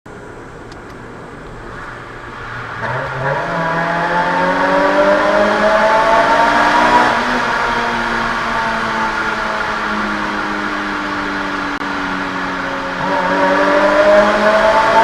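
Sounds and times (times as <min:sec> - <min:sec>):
car exhaust accelerating in a tunnel: 0:00.1 - 0:15.0.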